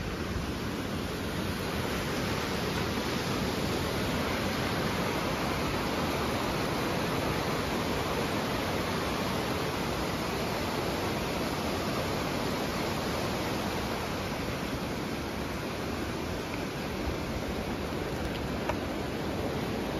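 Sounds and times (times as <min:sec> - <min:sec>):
stream and waterfall rushing: 0:00.0 - 0:19.9.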